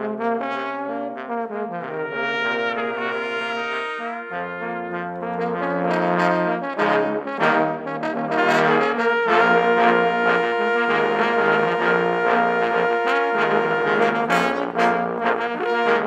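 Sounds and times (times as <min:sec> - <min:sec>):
trombone ensemble playing jazz: 0:00.0 - 0:16.0.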